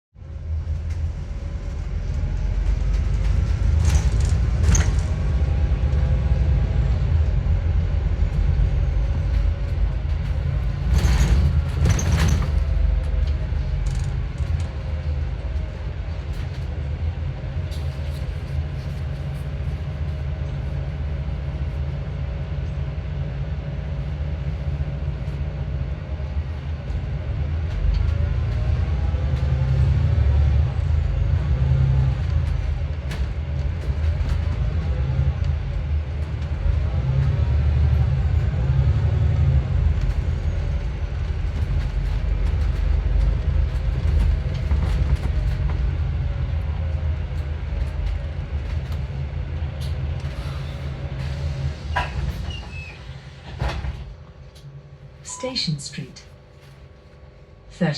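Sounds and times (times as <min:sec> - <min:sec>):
bus engine rumbling: 0:00.2 - 0:57.9
engine whine: 0:00.3 - 0:57.9.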